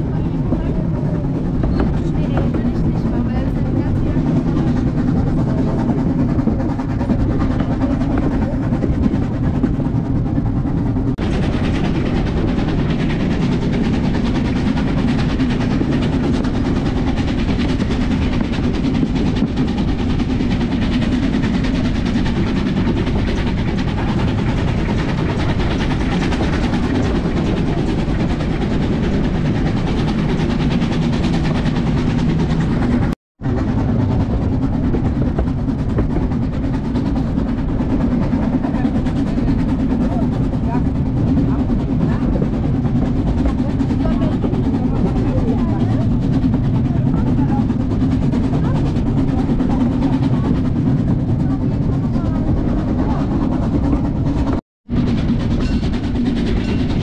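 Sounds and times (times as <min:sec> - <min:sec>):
steam train rumbling: 0:00.0 - 0:57.0.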